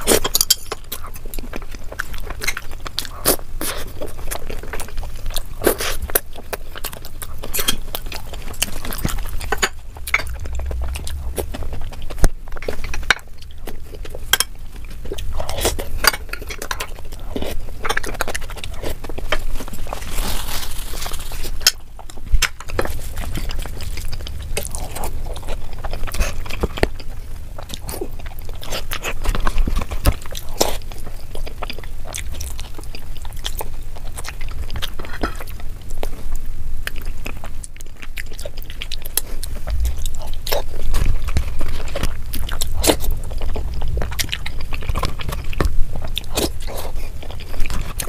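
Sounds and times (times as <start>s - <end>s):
close chewing and mouth noises: 0.0s - 48.0s.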